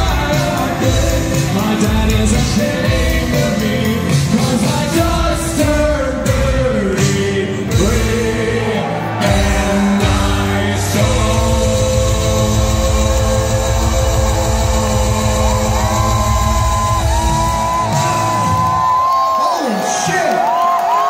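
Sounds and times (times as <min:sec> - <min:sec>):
person singing: 0:00.0 - 0:18.6
drums: 0:00.0 - 0:21.0
keyboards: 0:00.0 - 0:21.0.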